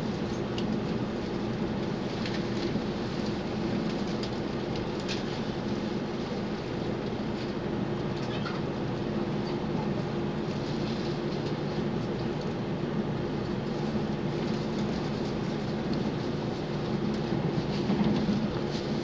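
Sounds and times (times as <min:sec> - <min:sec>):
steady low hum: 0:00.0 - 0:19.0
train wheels rumbling on rail: 0:00.0 - 0:19.0.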